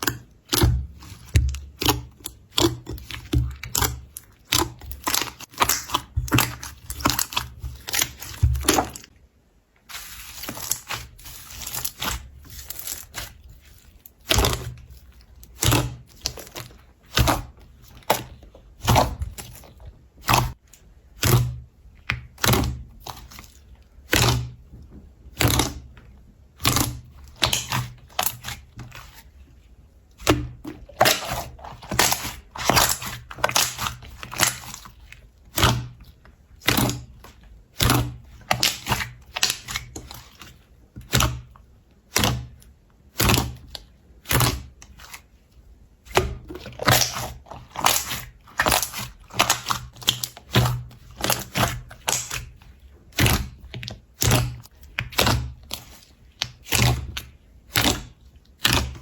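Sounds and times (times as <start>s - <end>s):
slime crackling and thudding: 0.0s - 9.2s, 9.8s - 29.4s, 30.1s - 59.0s.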